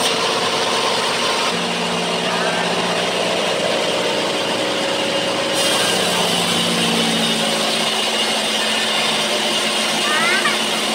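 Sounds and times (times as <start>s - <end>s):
bandsaw blade sawing timber: 0.0s - 10.9s
steady hum: 0.0s - 10.9s.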